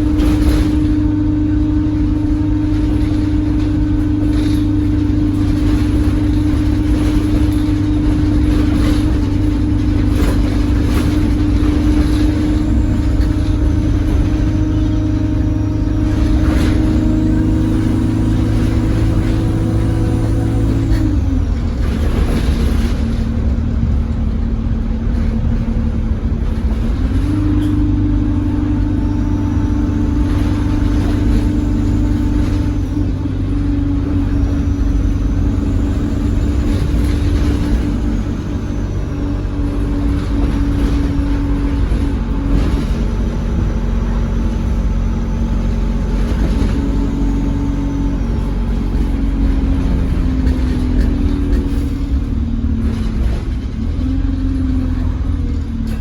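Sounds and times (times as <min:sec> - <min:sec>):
bus droning tone: 0:00.0 - 0:56.0
low diesel rumble: 0:00.0 - 0:56.0.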